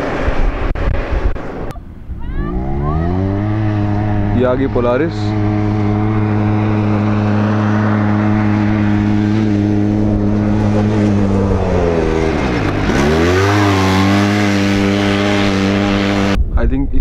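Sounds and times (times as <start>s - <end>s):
utility vehicle engine revving: 0.0s - 16.4s.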